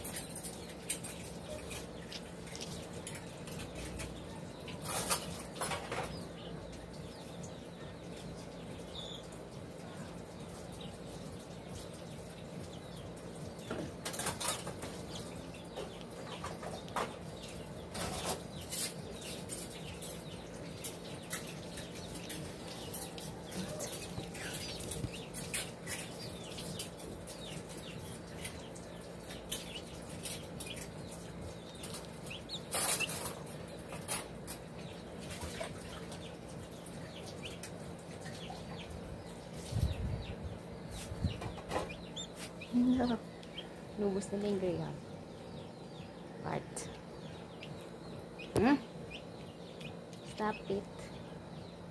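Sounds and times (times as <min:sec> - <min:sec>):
chicks pecking on paper plate: 0:00.0 - 0:51.8
chicks clucking and peeping: 0:00.0 - 0:51.9.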